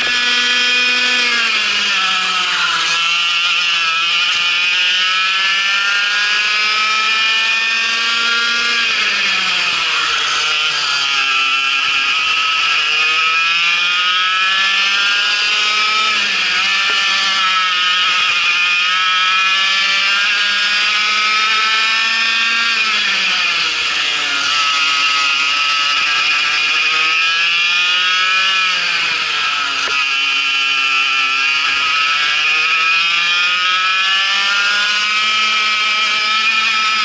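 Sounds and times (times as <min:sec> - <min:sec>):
kart engine revving: 0:00.0 - 0:37.0.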